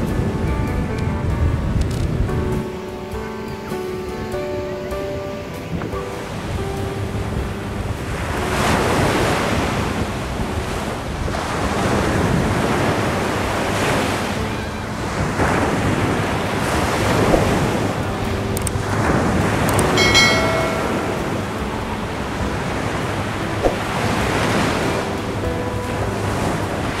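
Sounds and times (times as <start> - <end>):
sea waves washing up beach: 0.0 - 27.0
wind buffeting microphone: 0.0 - 27.0.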